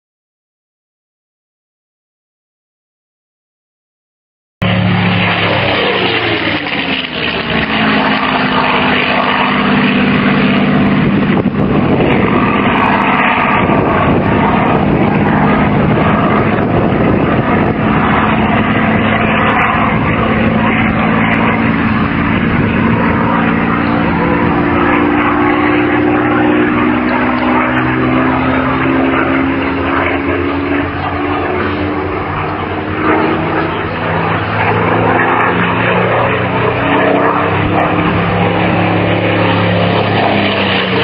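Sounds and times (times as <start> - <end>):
aircraft piston engine passing: 4.6 - 41.0.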